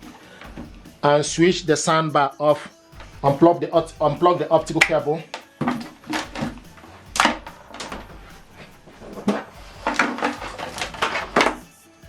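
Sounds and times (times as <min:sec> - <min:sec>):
knocks and clicks of handling gear: 0:00.0 - 0:01.0, 0:03.0 - 0:11.7.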